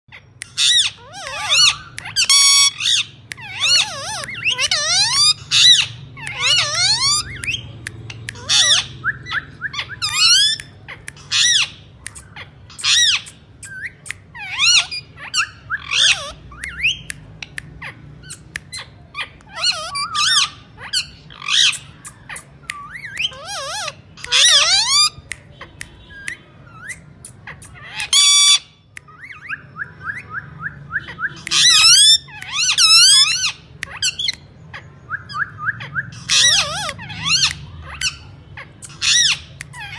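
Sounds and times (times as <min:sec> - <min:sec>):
parakeet calling and chattering: 0:00.1 - 0:39.9.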